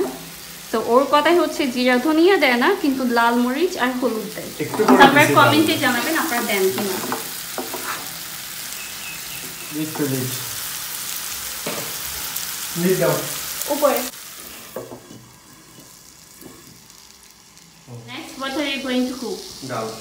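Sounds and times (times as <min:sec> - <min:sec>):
beans sizzling in hot oil: 0:00.0 - 0:20.0.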